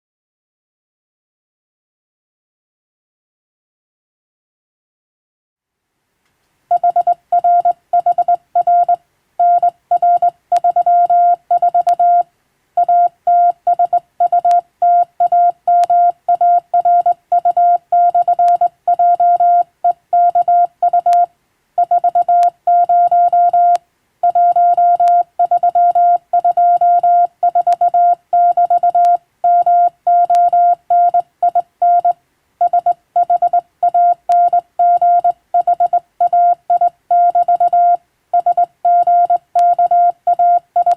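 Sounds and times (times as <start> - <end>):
morse code beeps: 6.7 - 40.9.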